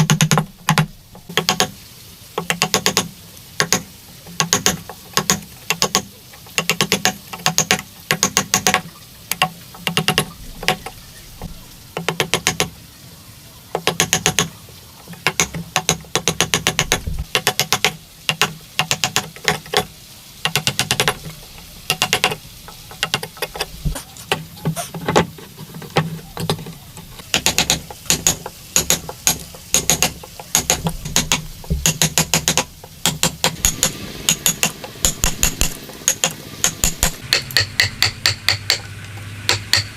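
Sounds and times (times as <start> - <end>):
hand tool clicking on wood: 0.0 - 1.8, 2.4 - 11.0, 12.0 - 12.7, 13.7 - 39.9.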